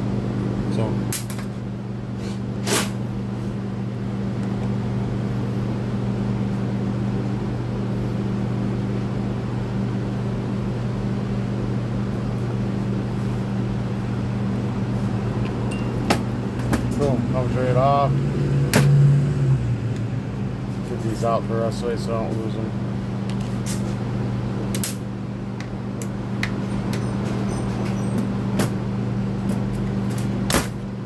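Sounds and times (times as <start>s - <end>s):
electric fans humming: 0.0s - 31.0s.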